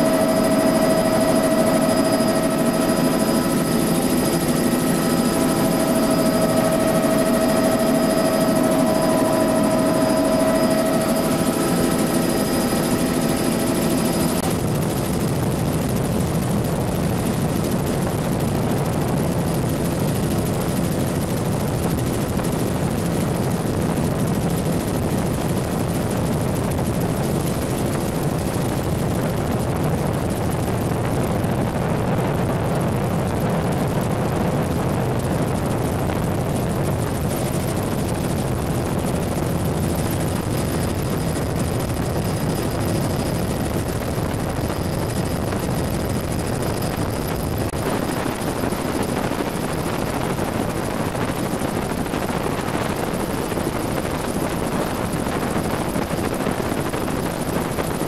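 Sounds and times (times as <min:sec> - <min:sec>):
helicopter rotor: 0:00.0 - 0:58.0
helicopter turbine whine: 0:00.0 - 0:58.0.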